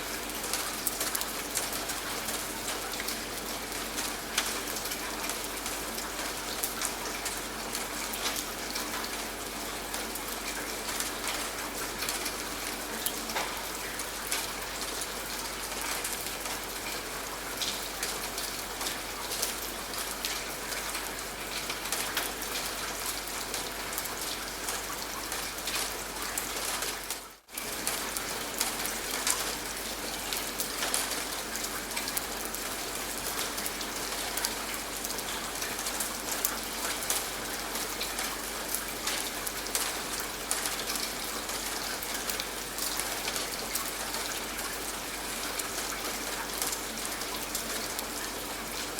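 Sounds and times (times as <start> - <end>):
rain falling: 0.0 - 48.9.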